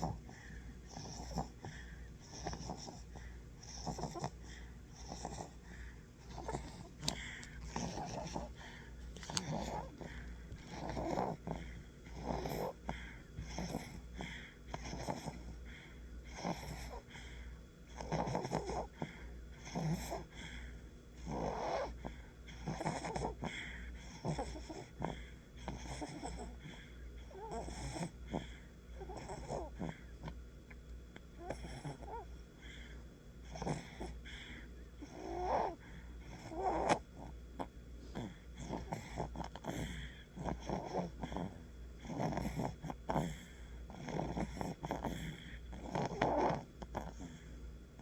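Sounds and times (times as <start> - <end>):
fluttery wheezy snoring: 0.0 - 20.6, 21.2 - 30.3, 31.4 - 48.0.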